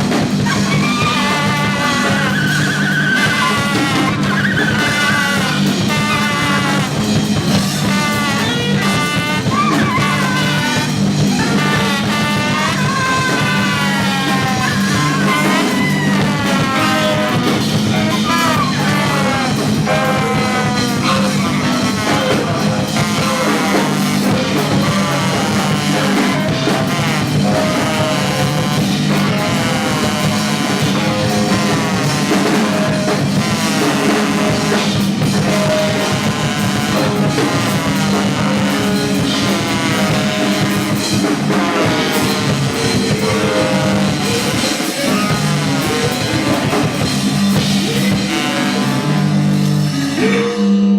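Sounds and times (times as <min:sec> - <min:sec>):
free jazz quartet playing: 0:00.0 - 0:50.4
drums: 0:00.0 - 0:50.9
horn lines bending in pitch: 0:00.0 - 0:50.9.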